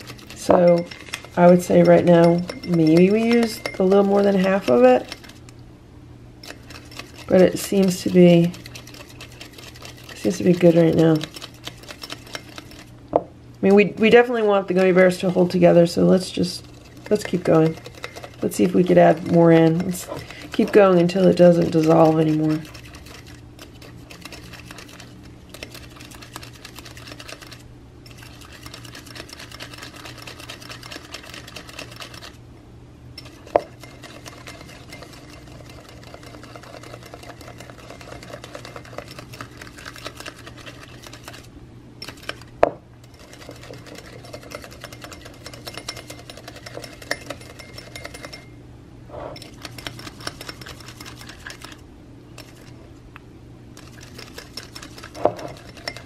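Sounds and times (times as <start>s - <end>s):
whisk scraping ceramic bowl: 0.0s - 5.5s, 6.4s - 13.0s, 13.7s - 32.4s, 33.2s - 48.5s, 49.1s - 51.8s, 52.4s - 52.8s, 53.7s - 56.0s.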